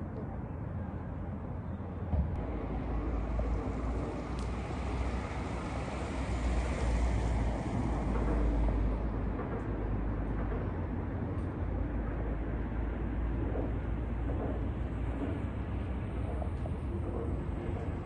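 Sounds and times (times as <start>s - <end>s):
low rumbling outdoor noise: 0.0s - 18.0s.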